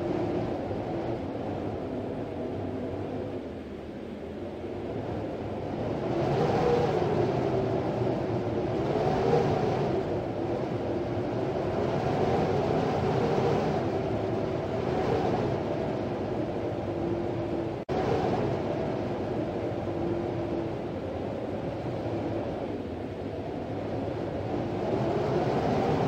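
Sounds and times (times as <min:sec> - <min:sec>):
wind howling in gusts: 0:00.0 - 0:26.0.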